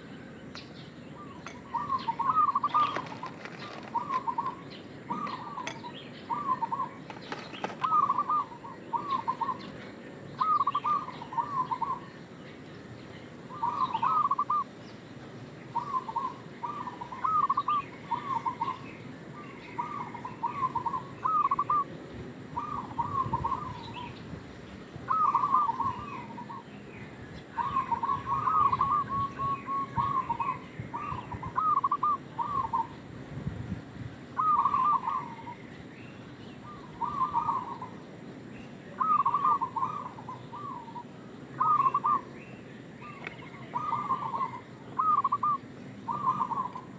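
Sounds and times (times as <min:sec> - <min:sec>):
dove cooing: 0:01.2 - 0:12.2, 0:13.4 - 0:14.8, 0:15.7 - 0:24.2, 0:25.0 - 0:26.8, 0:27.4 - 0:33.0, 0:34.4 - 0:35.7, 0:36.6 - 0:38.1, 0:38.9 - 0:42.4, 0:43.0 - 0:46.9.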